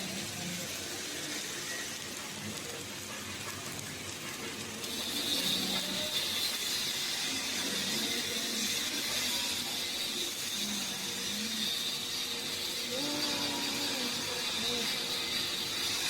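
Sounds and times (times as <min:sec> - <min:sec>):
welding arc hissing and crackling: 0:00.0 - 0:16.0.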